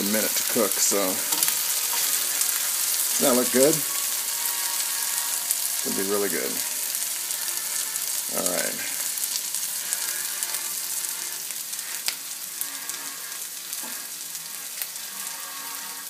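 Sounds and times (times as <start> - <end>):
food sizzling in oil: 0.0 - 16.0
oil crackles and pops: 0.0 - 16.0.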